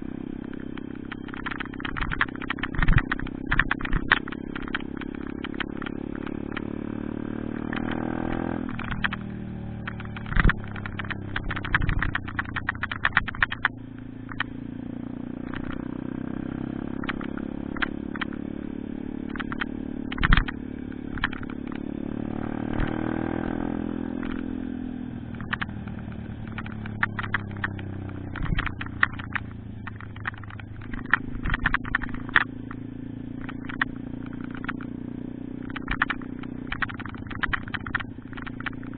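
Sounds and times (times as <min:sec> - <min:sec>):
pit bike engine revving: 0:00.0 - 0:38.9
sharp clicks and clatter: 0:00.3 - 0:38.9.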